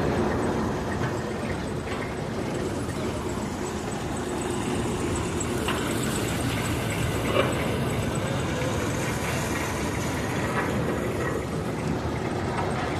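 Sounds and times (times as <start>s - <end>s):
heavy diesel machinery running: 0.0s - 12.9s.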